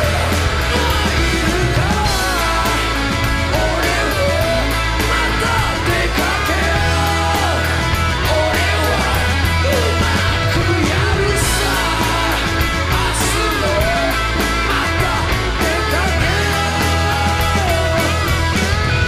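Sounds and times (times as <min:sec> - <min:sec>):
male singer belting: 0:00.0 - 0:18.6
drums: 0:00.0 - 0:19.0
electric guitars: 0:00.0 - 0:19.0.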